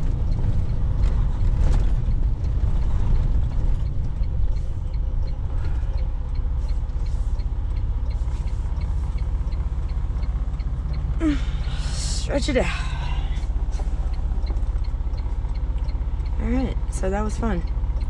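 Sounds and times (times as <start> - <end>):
diesel truck engine rumble: 0.0 - 18.0
light regular ticking: 0.0 - 18.0
road noise: 0.0 - 18.0.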